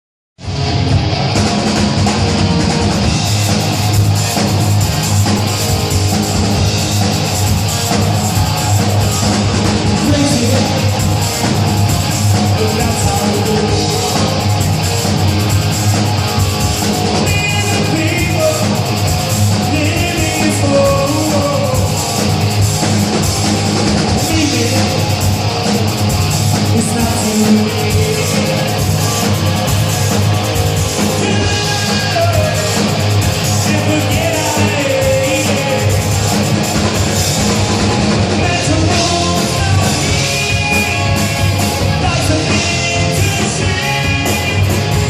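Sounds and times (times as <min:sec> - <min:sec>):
hard rock with distorted guitar: 0:00.4 - 0:45.0.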